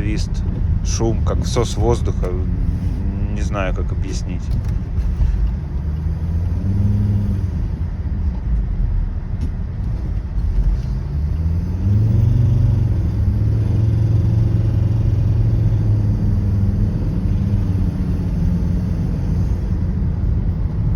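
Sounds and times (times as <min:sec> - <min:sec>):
diesel car engine accelerating: 0:00.0 - 0:20.9.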